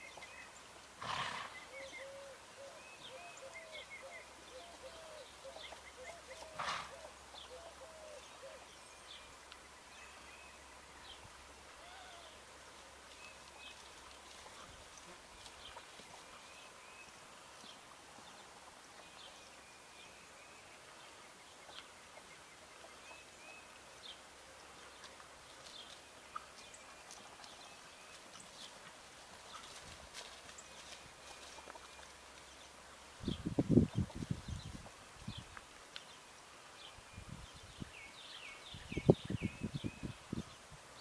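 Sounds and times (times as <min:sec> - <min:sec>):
soft steady hiss: 0:00.0 - 0:41.0.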